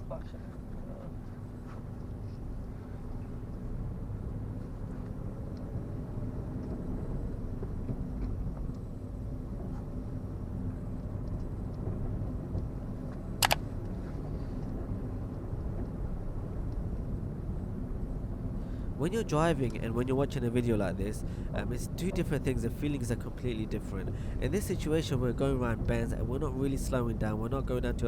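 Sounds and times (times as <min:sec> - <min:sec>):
car engine hum: 0:00.0 - 0:28.0
road rumble: 0:00.0 - 0:28.0.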